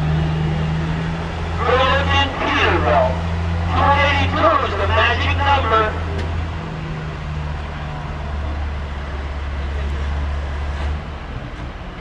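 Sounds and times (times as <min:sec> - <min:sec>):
diesel truck engine idling: 0:00.0 - 0:12.0
outdoor noise: 0:00.0 - 0:12.0.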